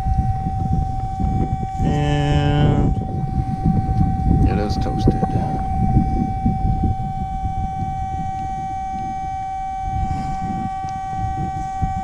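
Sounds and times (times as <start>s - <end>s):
low uneven rumble: 0.0s - 12.0s
metal detector steady tone: 0.0s - 12.0s.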